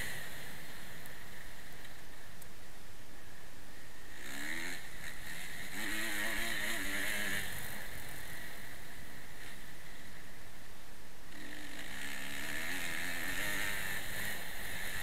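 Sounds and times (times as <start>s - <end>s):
motocross bike engine revving: 0.0s - 1.8s, 4.0s - 10.5s, 11.2s - 15.0s.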